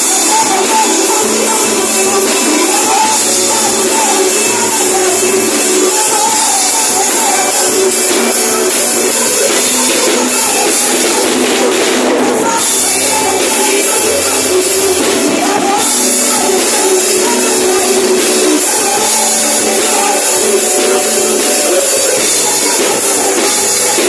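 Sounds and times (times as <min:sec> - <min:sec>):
band playing worship music: 0:00.0 - 0:24.0
percussion: 0:00.0 - 0:24.0.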